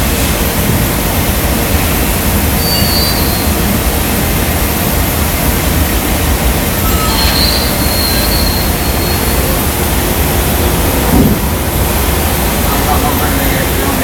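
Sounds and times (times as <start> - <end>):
gas furnaces and blowers roaring: 0.0 - 14.0.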